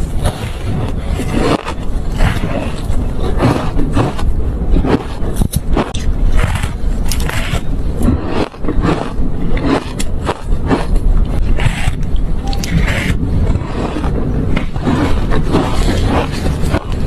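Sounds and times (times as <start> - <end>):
ice crunching being chewed: 0.0 - 17.0.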